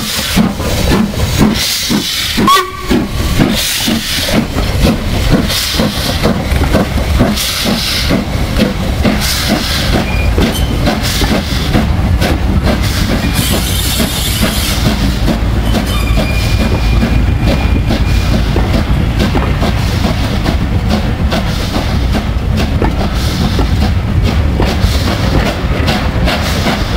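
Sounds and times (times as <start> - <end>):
steam hissing: 0.0 - 26.9
steam locomotive exhaust beats: 0.0 - 26.9.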